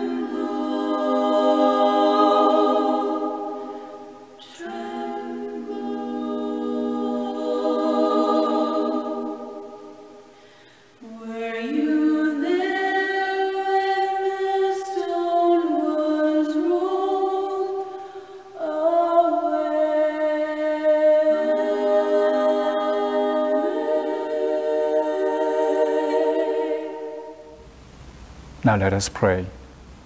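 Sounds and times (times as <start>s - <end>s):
women singing a cappella harmony: 0.0s - 27.6s.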